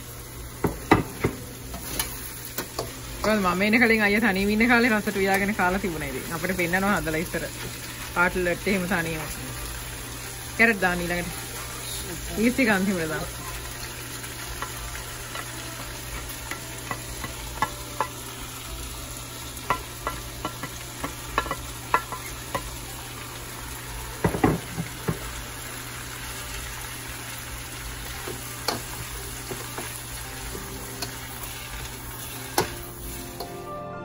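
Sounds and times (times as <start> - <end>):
vegetables sizzling in a frying pan: 0.0 - 33.7.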